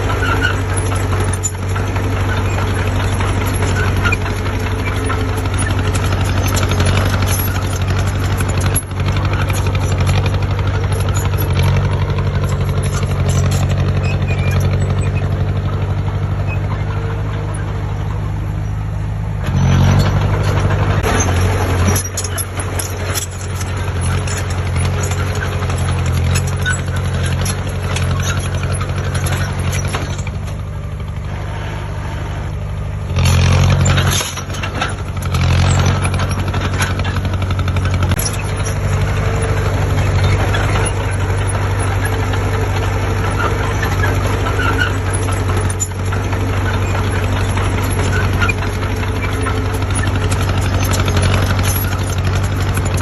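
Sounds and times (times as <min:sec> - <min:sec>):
heavy diesel engine running: 0:00.0 - 0:53.0
knocks and rattles: 0:00.0 - 0:53.0.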